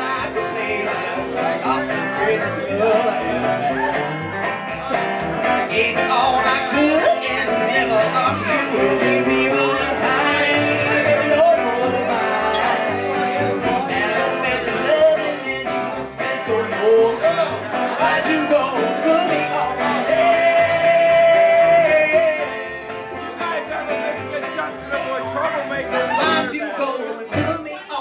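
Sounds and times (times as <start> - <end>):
electric guitar: 0.0 - 27.6
man singing: 0.0 - 28.0
plucked upright bass: 0.0 - 28.0.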